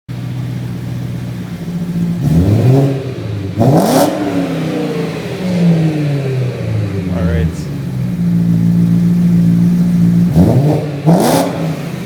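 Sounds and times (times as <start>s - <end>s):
car engine revving: 1.7s - 12.0s.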